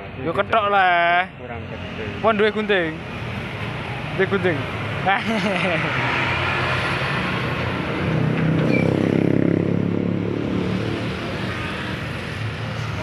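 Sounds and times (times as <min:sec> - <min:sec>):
vehicle engine passing: 0:01.6 - 0:13.0.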